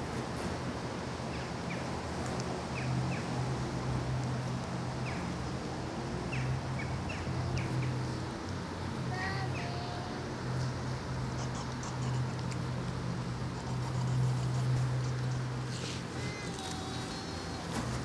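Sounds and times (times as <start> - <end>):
low outdoor hum: 0.0 - 18.0.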